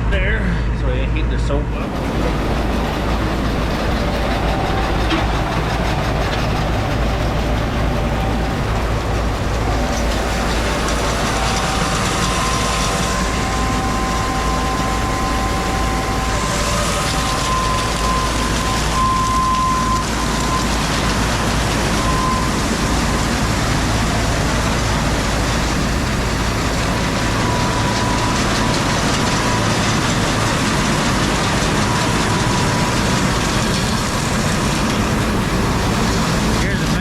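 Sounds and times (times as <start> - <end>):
machinery running: 0.0 - 37.0.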